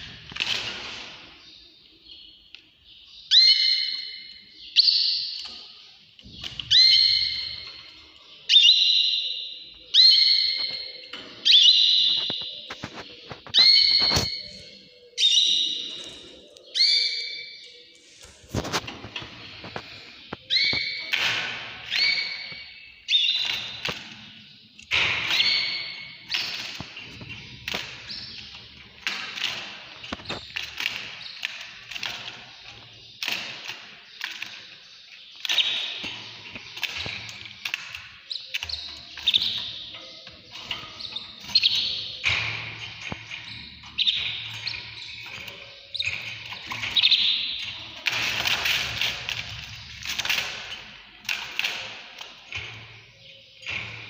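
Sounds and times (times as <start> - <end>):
caged birds chirping: 0.0 - 54.0.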